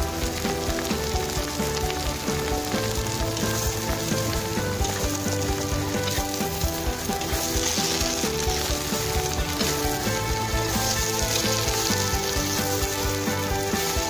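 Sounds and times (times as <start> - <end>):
carrots sizzling in hot oil: 0.0 - 14.0.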